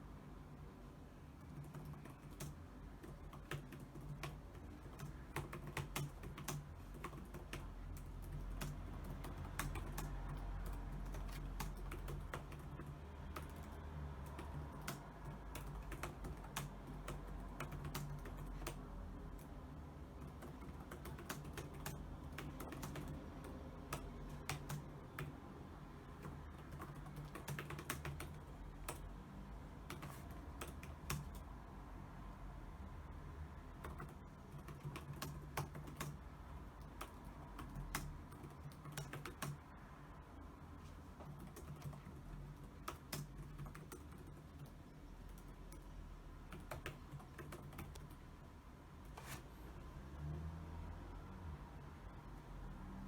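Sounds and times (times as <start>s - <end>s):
keyboard typing: 1.3s - 31.6s, 33.7s - 49.5s.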